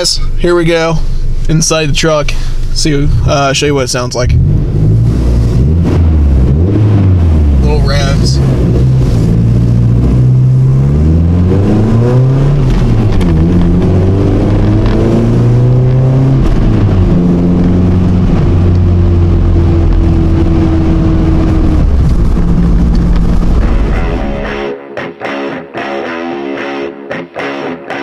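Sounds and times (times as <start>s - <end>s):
engine and exhaust accelerating: 1.0s - 24.8s.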